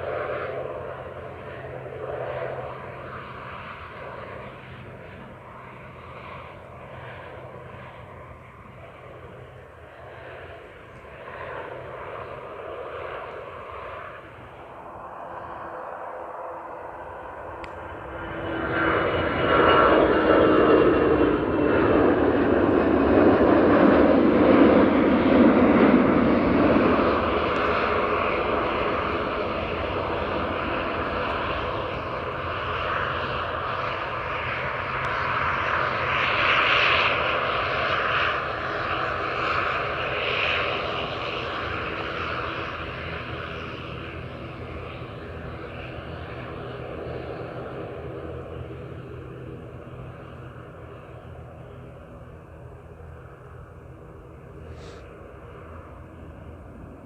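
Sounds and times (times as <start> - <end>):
airliner engines roaring: 0.0 - 57.0
steady engine whine: 0.0 - 57.0.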